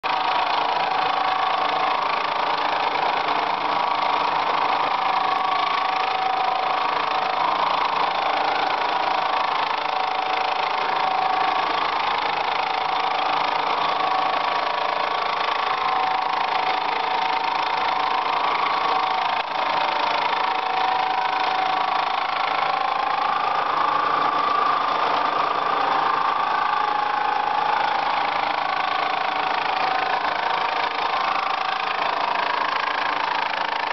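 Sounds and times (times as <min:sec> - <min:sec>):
milling cutter machining metal: 0:00.0 - 0:33.9.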